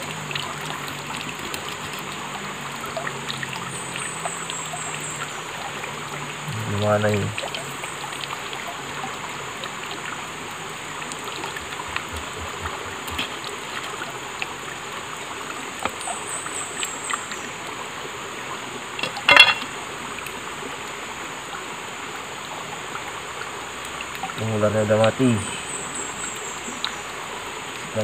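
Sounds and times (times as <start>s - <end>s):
small stream running: 0.0s - 28.0s.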